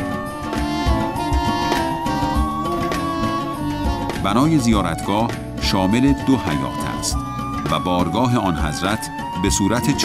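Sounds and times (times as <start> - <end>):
held melody notes: 0.0 - 10.0
low drum beat: 0.0 - 10.0.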